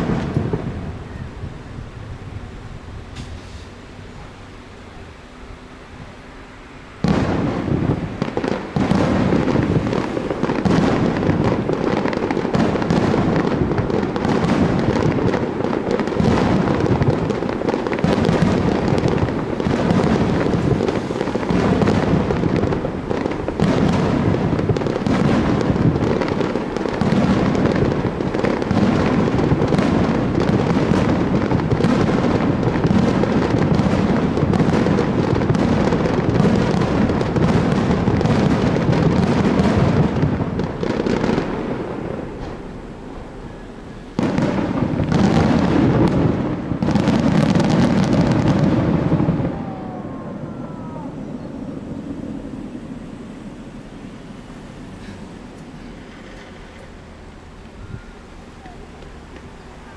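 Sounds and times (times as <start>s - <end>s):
fireworks bursts and booms: 0.0s - 2.3s, 7.0s - 59.9s
echoing rumble: 3.8s - 58.4s.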